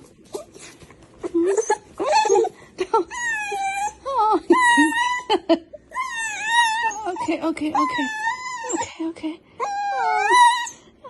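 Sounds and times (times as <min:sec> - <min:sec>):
dog whining: 0:00.2 - 0:09.0, 0:09.6 - 0:11.0.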